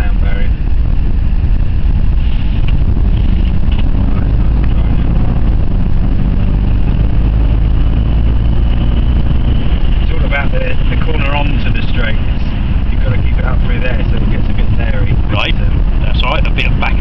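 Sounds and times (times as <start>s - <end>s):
car cabin engine and road drone: 0.0s - 17.0s.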